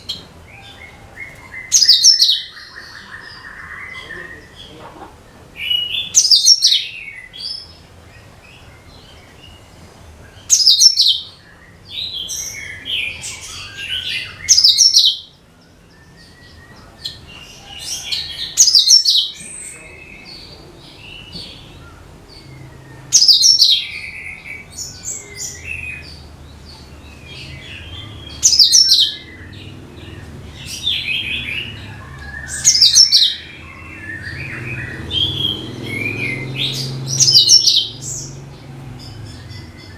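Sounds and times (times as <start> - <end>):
bird twittering: 0.0 - 4.9, 5.6 - 7.7, 10.4 - 15.4, 16.0 - 39.9.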